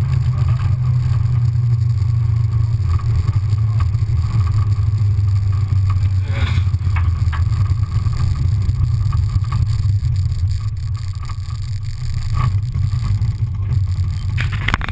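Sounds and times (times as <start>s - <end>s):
car engine running at low revs: 0.0s - 14.9s.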